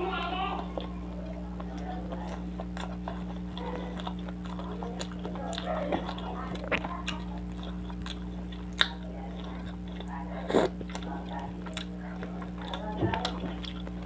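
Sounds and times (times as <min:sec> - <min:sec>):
man chewing food: 0:00.0 - 0:14.0
steady low hum: 0:00.0 - 0:14.0.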